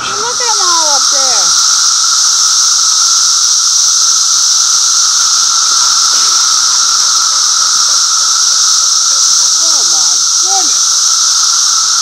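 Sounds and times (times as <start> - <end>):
cicadas chorus high-pitched whine: 0.0 - 12.0.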